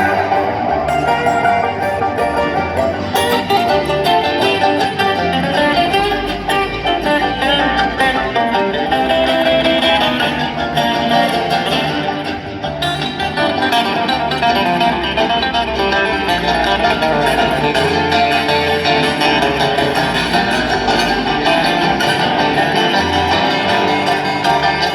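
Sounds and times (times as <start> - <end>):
plucked guitar: 0.0 - 24.9
string band playing live: 0.0 - 24.9.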